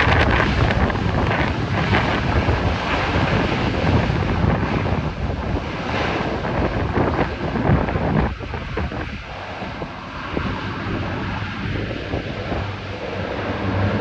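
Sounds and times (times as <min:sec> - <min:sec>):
turboprop engines running: 0:00.0 - 0:14.0
wind buffeting microphone: 0:00.0 - 0:14.0.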